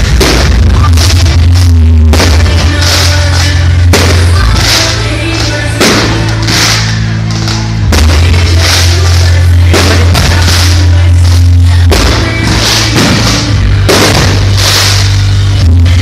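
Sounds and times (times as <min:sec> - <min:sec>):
drum kit: 0:00.0 - 0:16.0
held bass notes: 0:00.0 - 0:16.0
loud rock music: 0:00.0 - 0:16.0.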